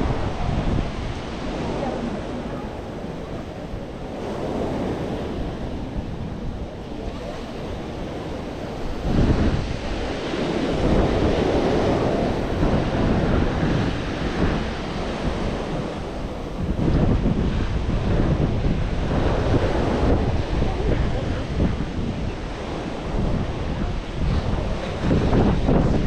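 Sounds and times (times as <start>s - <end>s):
sea waves washing ashore: 0.0s - 26.0s
wind rumbling on microphone: 0.0s - 26.0s.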